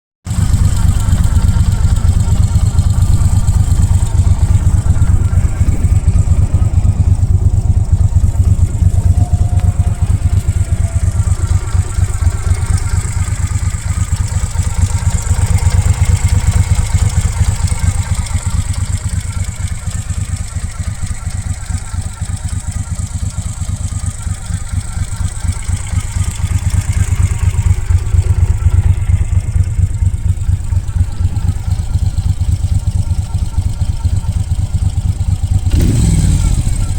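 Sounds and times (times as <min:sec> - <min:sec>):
motorcycle engine running: 0:00.2 - 0:36.9.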